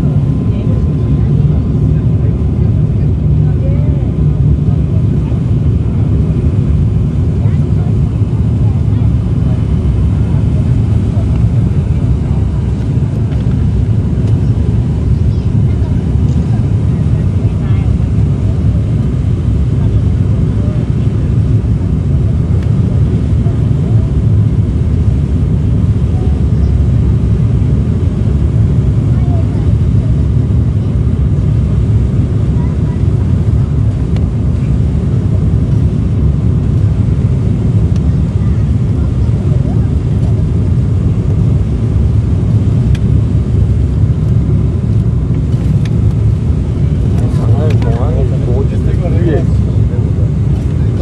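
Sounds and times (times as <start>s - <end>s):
airliner engine drone in cabin: 0.0s - 51.0s.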